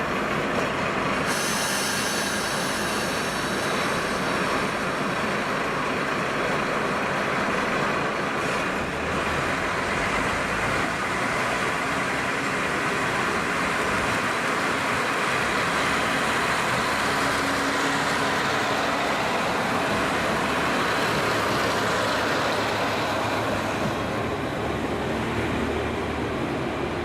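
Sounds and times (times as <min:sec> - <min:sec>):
diesel railcar running: 0:00.0 - 0:27.0.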